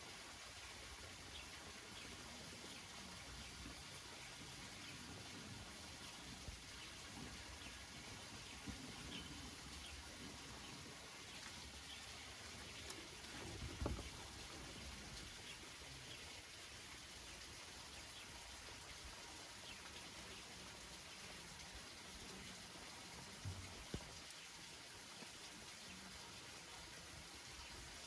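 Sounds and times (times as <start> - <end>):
rain pattering on leaves: 0.0 - 28.0.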